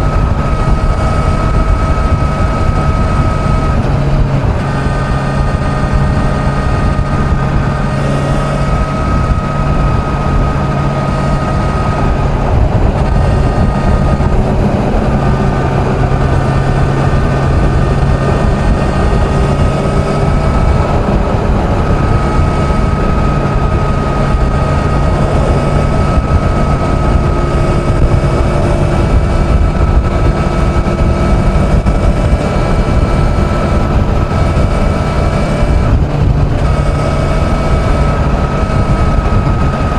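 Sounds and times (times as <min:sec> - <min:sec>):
motorcycle engine cruising: 0:00.0 - 0:39.9
wind and road rumble: 0:00.0 - 0:39.9.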